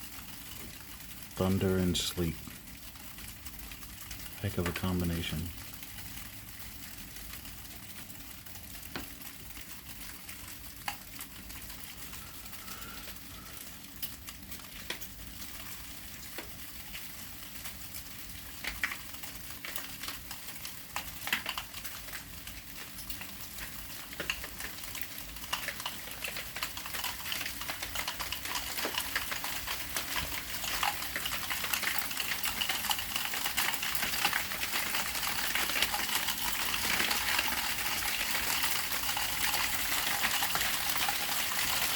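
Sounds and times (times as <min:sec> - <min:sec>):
ice pellets ticking: 0:00.0 - 0:41.9.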